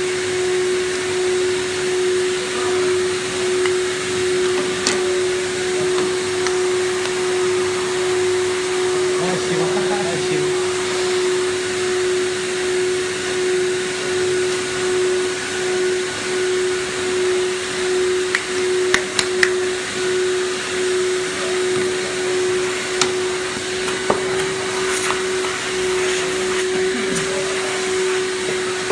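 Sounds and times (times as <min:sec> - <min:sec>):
vacuum blower hiss and hum: 0:00.0 - 0:28.9.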